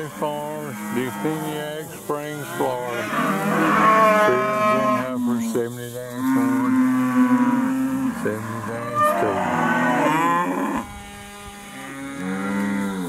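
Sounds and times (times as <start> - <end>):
cattle mooing and bawling: 0.0 - 13.0.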